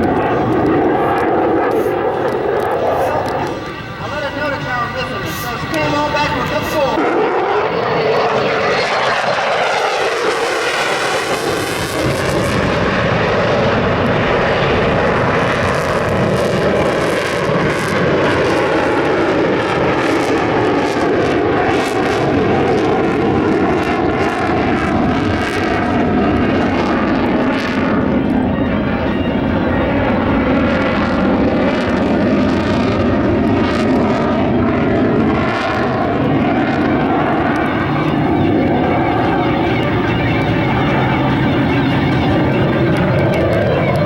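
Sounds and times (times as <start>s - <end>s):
military aircraft flying over: 0.0s - 44.0s.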